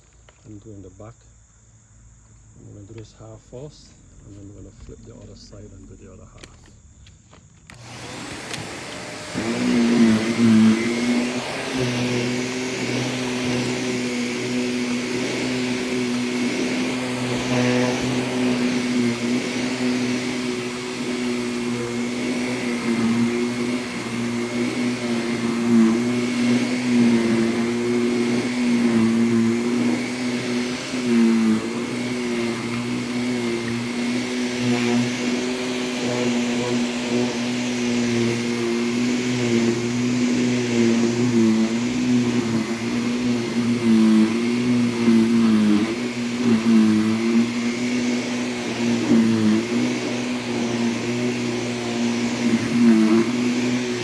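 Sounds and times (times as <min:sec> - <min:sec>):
vacuum cleaner running over rug: 0:07.7 - 0:54.0.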